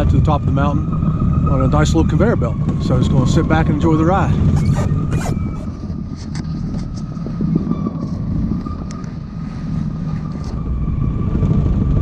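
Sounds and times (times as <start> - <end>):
conveyor belt lift rumbling: 0.0 - 12.0
thin whine: 0.0 - 12.0.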